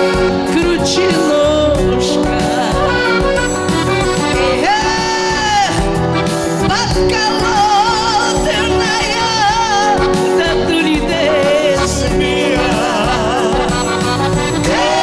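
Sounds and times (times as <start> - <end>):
instrumental backing chords: 0.0 - 15.0
person singing with vibrato: 0.0 - 15.0.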